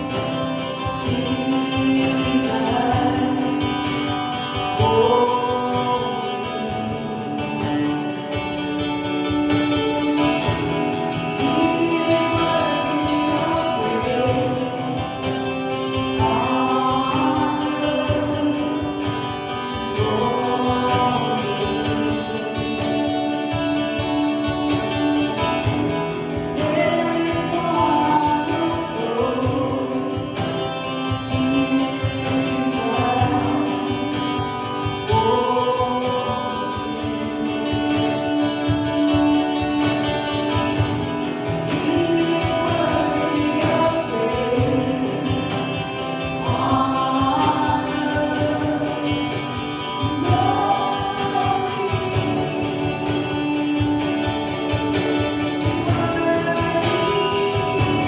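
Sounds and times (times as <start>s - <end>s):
gospel music with voices singing: 0.0s - 58.0s.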